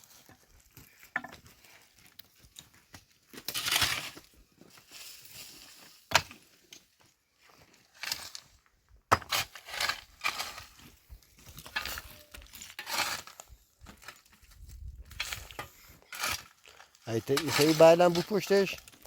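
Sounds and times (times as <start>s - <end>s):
rustling and scraping: 0.0s - 6.6s, 7.7s - 19.0s.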